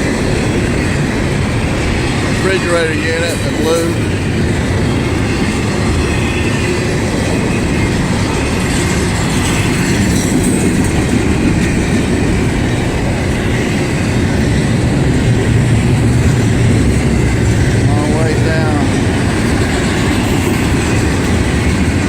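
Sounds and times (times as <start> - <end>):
clickety-clack over rail joints: 0.0 - 22.0
freight train wheels rumbling: 0.0 - 22.0.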